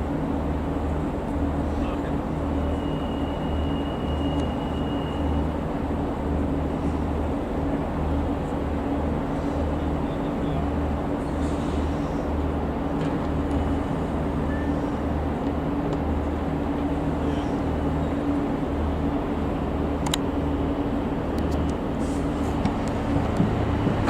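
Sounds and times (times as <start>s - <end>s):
diesel locomotive engine throbbing: 0.0s - 24.0s.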